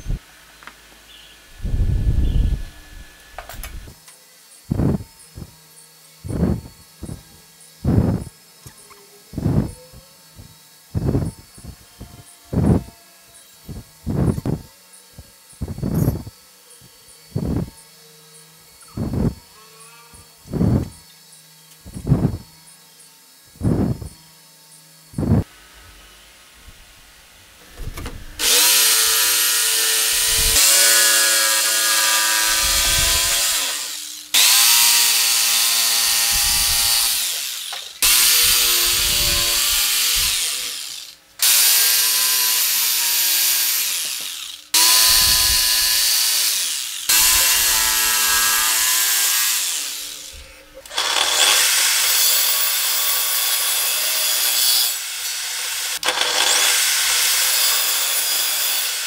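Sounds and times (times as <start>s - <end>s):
table saw cutting wood: 0.0s - 59.0s
jigsaw cutting wood: 4.6s - 21.0s, 21.8s - 22.6s, 23.4s - 24.2s, 25.0s - 25.5s, 28.2s - 59.0s.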